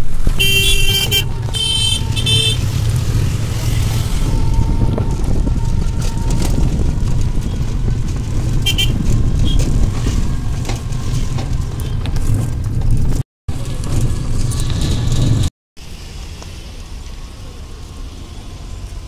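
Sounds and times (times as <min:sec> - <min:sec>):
wind buffeting microphone: 0:00.0 - 0:15.5
vehicle rattling over road: 0:00.0 - 0:19.0.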